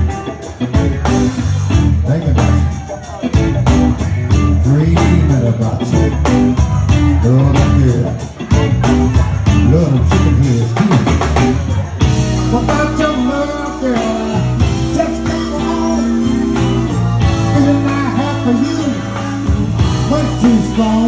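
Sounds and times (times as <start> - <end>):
blues band playing: 0.0 - 21.0.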